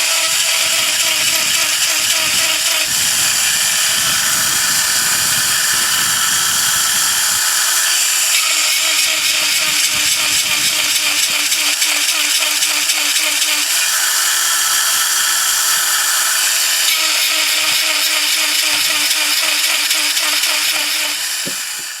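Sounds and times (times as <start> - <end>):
chain grinder grinding: 0.0 - 22.0.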